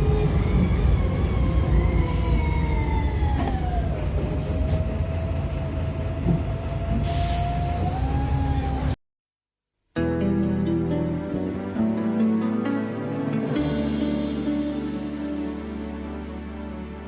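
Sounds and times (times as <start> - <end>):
bus rumble: 0.0 - 9.0, 10.3 - 17.0.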